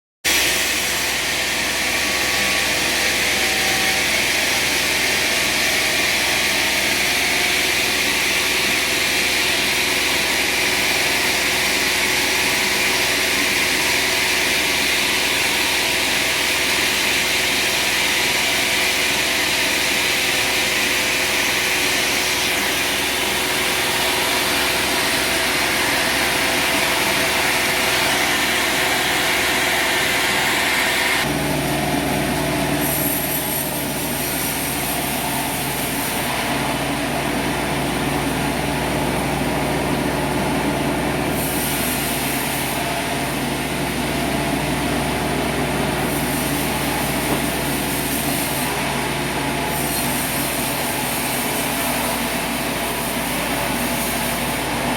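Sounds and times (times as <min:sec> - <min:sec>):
sawmill machinery drone: 0:00.3 - 0:54.9.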